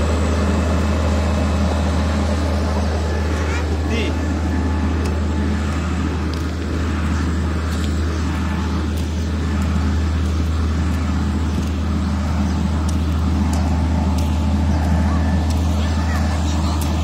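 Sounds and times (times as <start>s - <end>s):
engine rumbling steadily: 0.0s - 17.0s.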